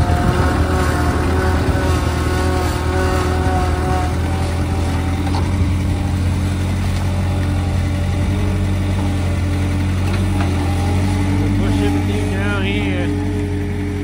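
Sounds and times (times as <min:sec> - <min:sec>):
skid steer engine running: 0:00.0 - 0:14.0.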